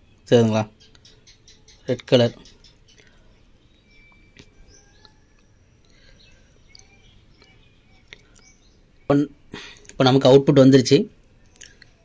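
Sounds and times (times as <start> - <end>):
faint bird chirps: 0.0 - 12.0
low background hiss: 0.0 - 12.0.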